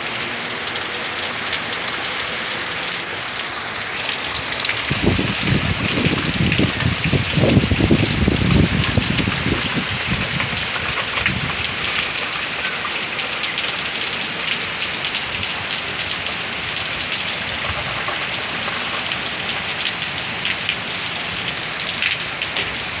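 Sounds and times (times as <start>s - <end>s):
heavy rain on pavement: 0.0s - 23.0s.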